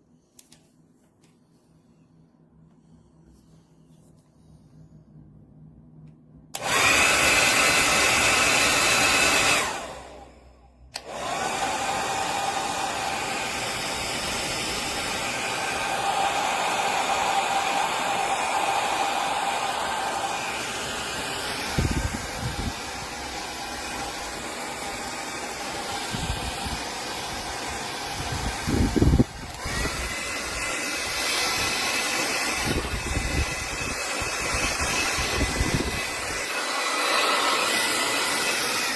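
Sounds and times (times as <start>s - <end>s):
hair dryer blowing whine: 6.5s - 38.9s.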